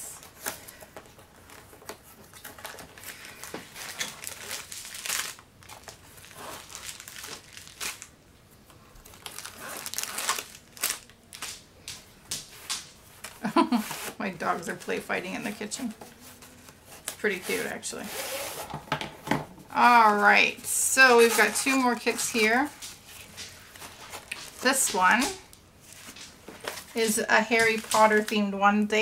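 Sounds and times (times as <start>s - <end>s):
plastic packaging crinkling: 0.2s - 18.8s, 19.8s - 29.0s.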